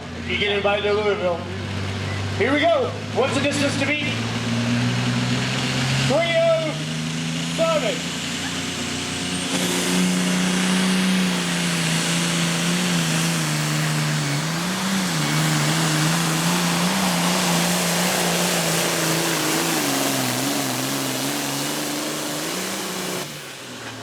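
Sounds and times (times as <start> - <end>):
tractor engine at full throttle: 0.0 - 24.0.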